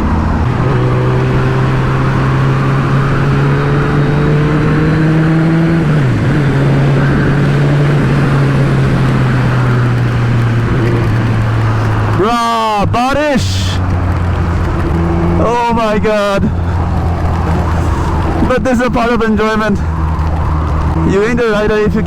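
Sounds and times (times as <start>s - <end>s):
motorcycle engine running: 0.0s - 22.0s
wind noise: 0.0s - 22.0s.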